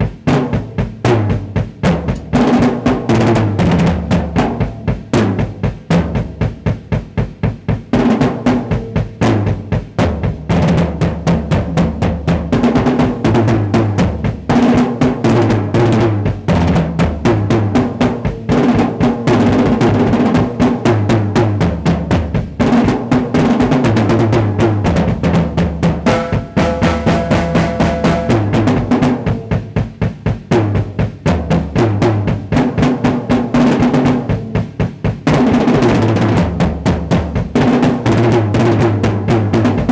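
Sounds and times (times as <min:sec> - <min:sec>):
bass drum: 0:00.0 - 0:39.9
drum solo: 0:00.0 - 0:39.9.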